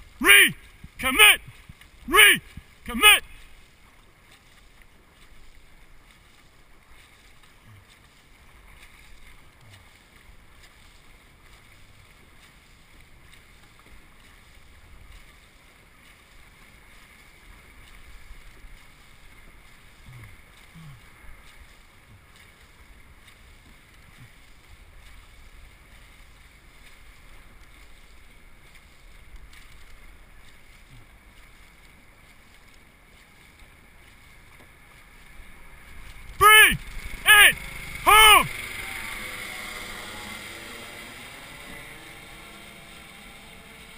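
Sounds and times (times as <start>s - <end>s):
water splashing along boat hull: 0.0s - 43.9s.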